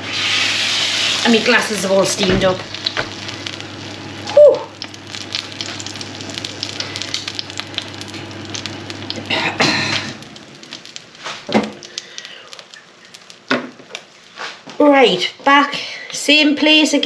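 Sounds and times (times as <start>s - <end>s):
fat sizzling on a metal tray: 0.0s - 15.0s
steady low hum: 0.0s - 16.2s.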